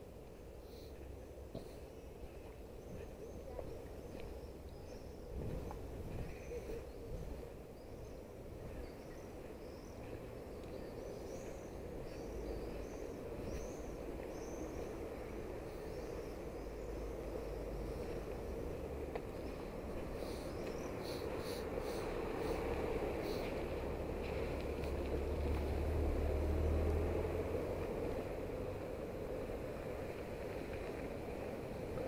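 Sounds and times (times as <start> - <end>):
low outdoor rumble: 0.0 - 32.0
songbirds chirping: 0.0 - 32.0.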